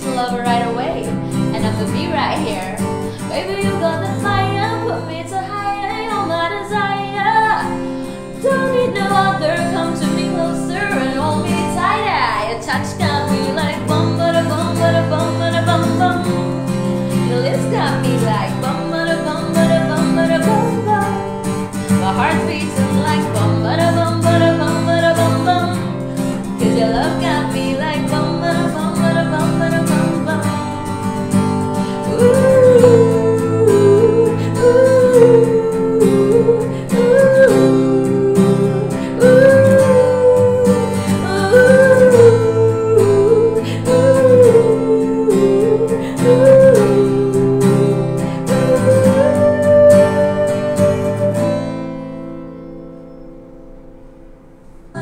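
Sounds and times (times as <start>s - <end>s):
woman singing: 0.0s - 51.8s
strummed acoustic guitar: 0.0s - 55.0s.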